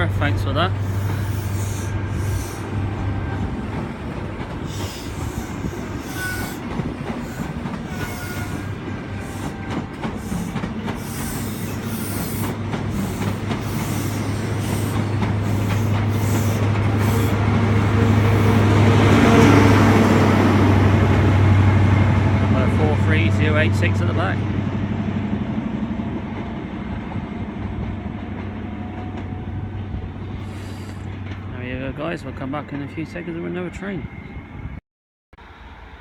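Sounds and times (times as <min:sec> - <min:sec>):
train coaches rolling past: 0:00.0 - 0:34.8.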